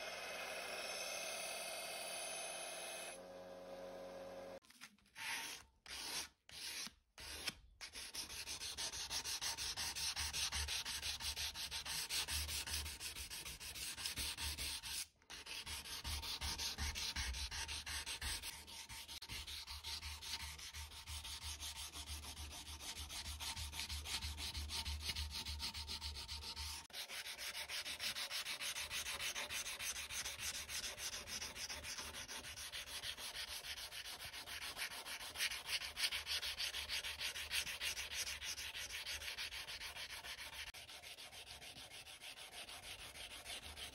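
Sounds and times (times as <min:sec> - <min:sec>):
sanding stick scraping steel blade: 0:05.2 - 0:43.9.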